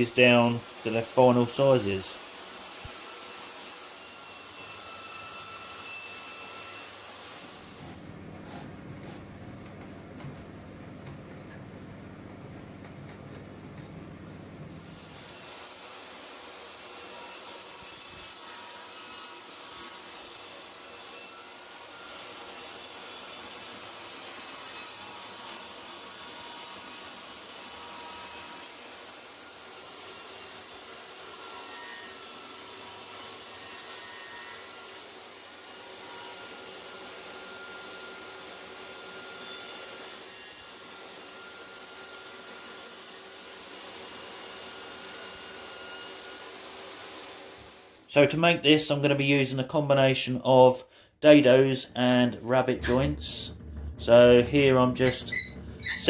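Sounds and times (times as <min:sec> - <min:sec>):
power saw cutting boards: 0:00.0 - 0:09.3, 0:14.7 - 0:48.1, 0:50.9 - 0:56.0.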